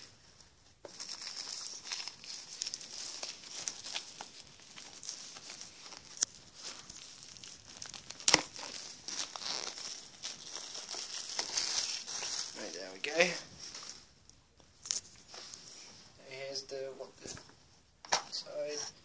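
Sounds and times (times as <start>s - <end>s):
plastic wrapping crinkling: 0.2s - 15.7s.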